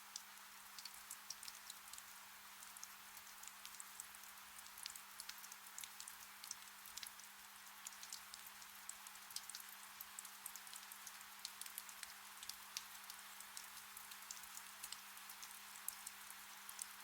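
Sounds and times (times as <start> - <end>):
gentle rain: 0.0 - 17.0.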